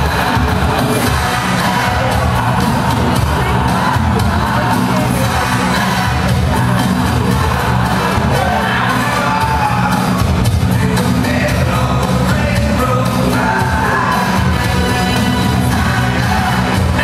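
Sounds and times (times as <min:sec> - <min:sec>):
latin dance music: 0:00.0 - 0:17.0.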